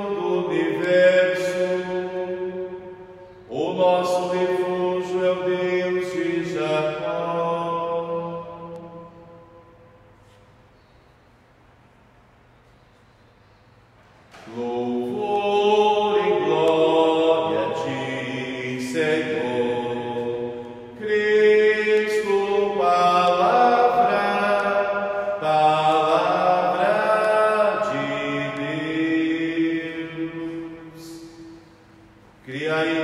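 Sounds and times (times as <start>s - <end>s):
person singing a chant: 0.0s - 9.4s, 14.4s - 33.0s.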